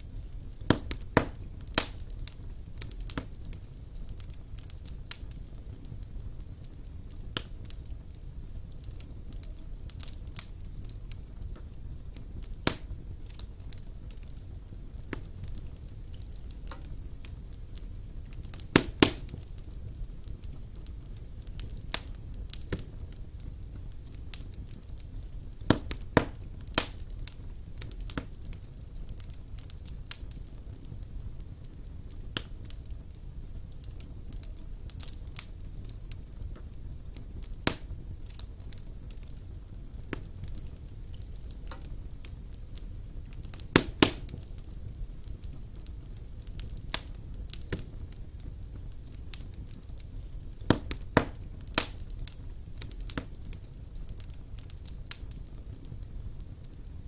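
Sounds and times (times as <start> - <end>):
fire crackling and popping: 0.0 - 57.0
fire low rumble: 0.0 - 57.0.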